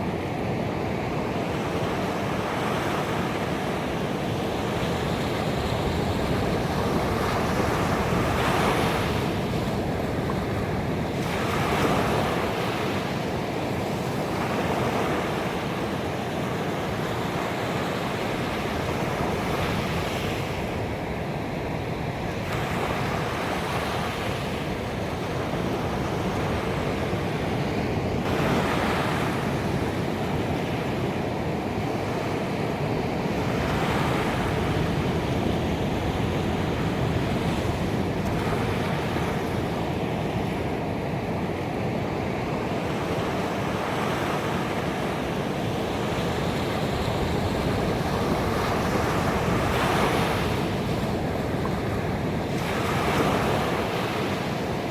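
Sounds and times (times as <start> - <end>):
ocean surf breaking on a beach: 0.0 - 54.9.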